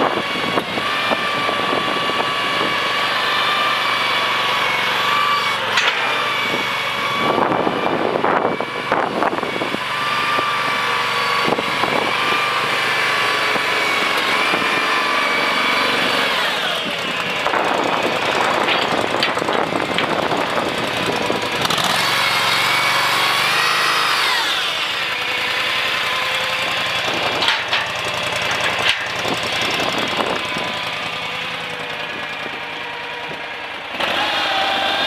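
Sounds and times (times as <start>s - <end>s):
skid steer engine running: 0.0s - 35.0s.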